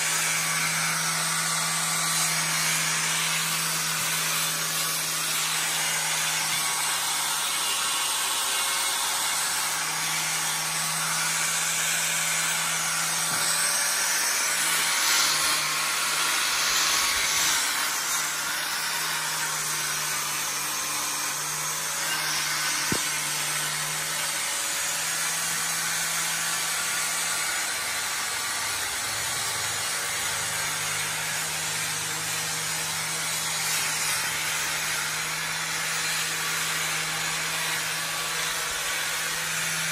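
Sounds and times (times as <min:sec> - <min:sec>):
abrasive sanding hiss: 0:00.0 - 0:39.9
power sander motor hum: 0:00.0 - 0:39.9.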